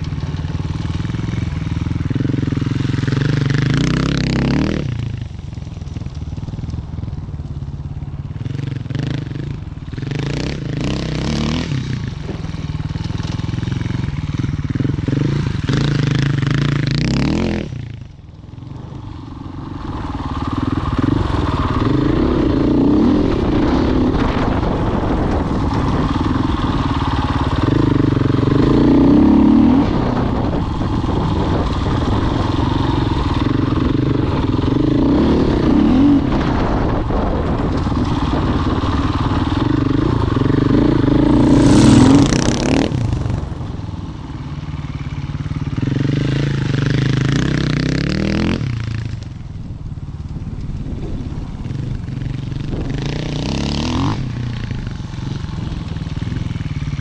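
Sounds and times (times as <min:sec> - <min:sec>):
dirt bike engine revving: 0:00.0 - 0:05.4, 0:08.3 - 0:49.2, 0:52.3 - 0:57.0.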